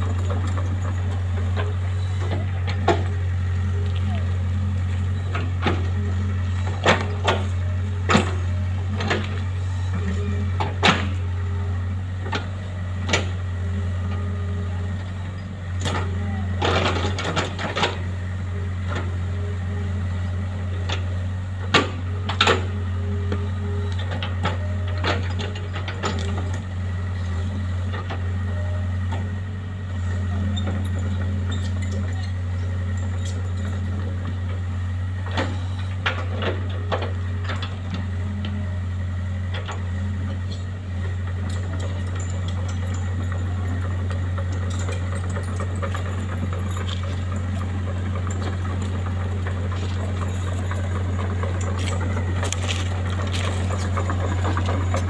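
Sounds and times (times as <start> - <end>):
machine engine humming: 0.0 - 55.0.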